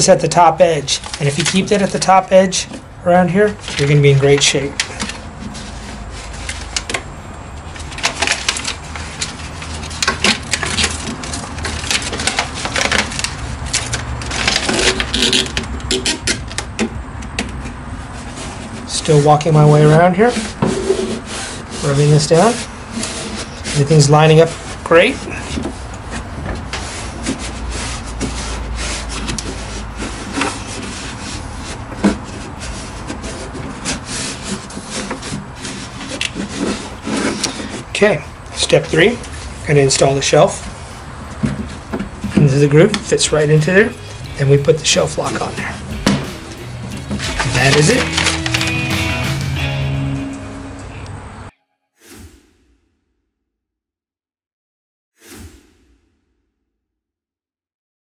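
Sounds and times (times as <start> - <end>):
plastic crinkling and scuffing: 0.0 - 16.8, 17.9 - 49.9.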